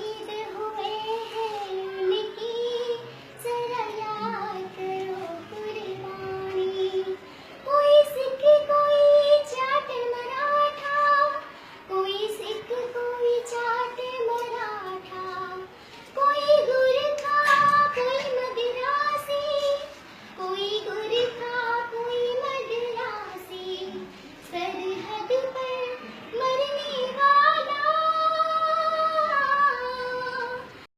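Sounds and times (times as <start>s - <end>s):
girl singing: 0.0s - 30.9s.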